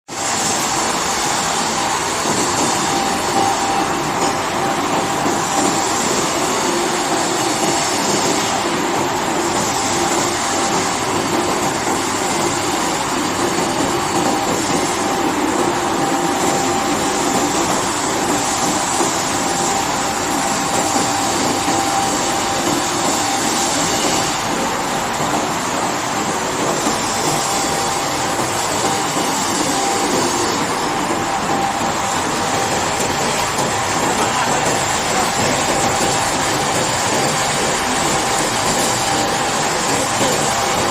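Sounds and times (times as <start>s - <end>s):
glass washing machine running: 0.1s - 40.9s.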